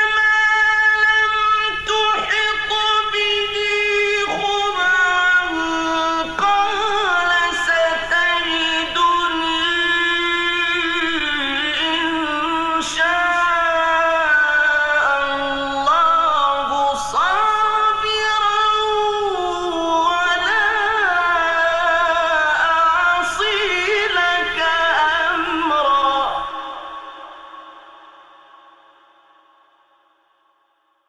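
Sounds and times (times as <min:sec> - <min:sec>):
man chanting melodic recitation: 0:00.0 - 0:27.6.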